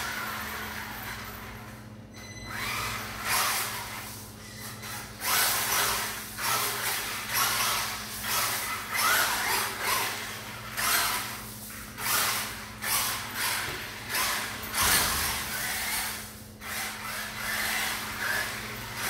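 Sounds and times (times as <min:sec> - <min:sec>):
toy car electric motor whirring: 0:00.0 - 0:01.8, 0:02.4 - 0:19.0.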